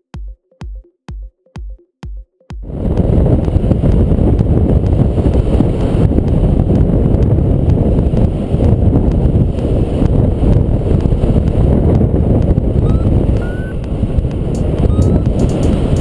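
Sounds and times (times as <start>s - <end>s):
wind buffeting microphone: 2.6s - 16.0s.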